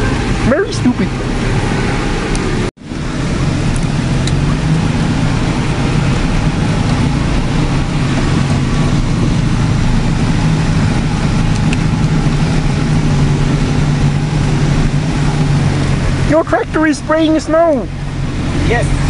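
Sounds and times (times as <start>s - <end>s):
tractor engine humming: 0.0s - 19.0s.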